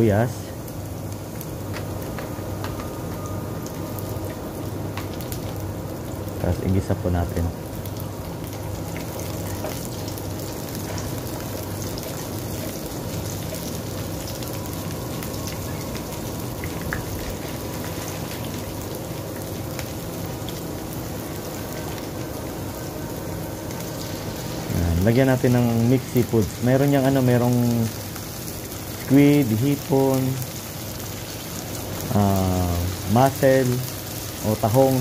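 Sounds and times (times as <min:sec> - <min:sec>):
garlic and onion sizzling in oil: 0:00.3 - 0:35.0.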